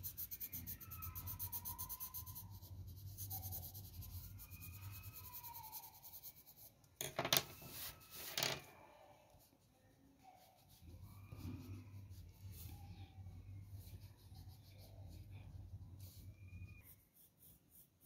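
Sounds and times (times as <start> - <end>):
pencil shading on paper: 0.0 - 6.8, 9.3 - 18.0.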